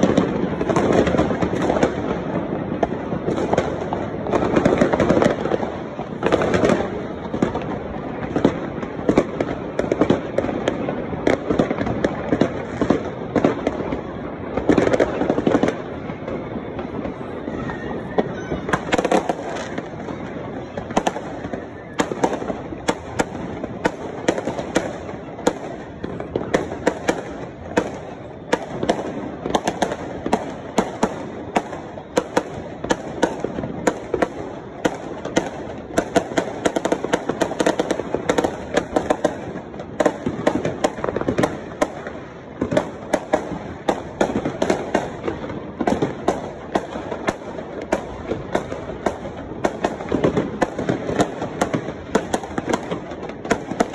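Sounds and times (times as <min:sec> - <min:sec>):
distant fireworks bursts: 0:00.0 - 0:53.9
fireworks bangs and pops: 0:00.0 - 0:53.9.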